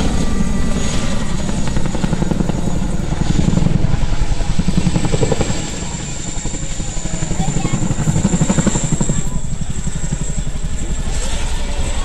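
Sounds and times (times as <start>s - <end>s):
helicopter rotors chopping: 0.0s - 12.0s.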